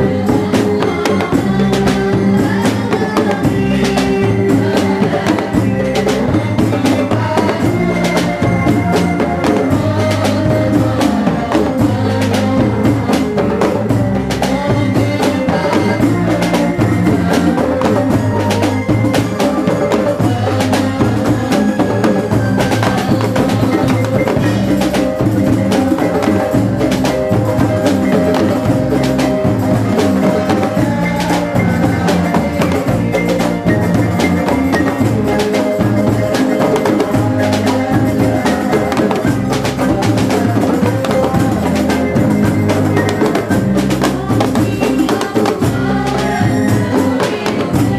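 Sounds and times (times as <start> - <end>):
electronic keyboard: 0.0 - 47.9
frame drums beating: 0.0 - 47.9
guitar: 0.0 - 47.9
men singing into microphones: 0.0 - 47.9.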